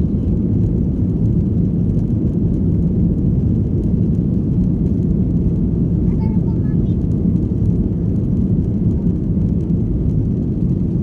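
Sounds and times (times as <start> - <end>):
airliner engines rumbling in cabin: 0.0 - 11.0.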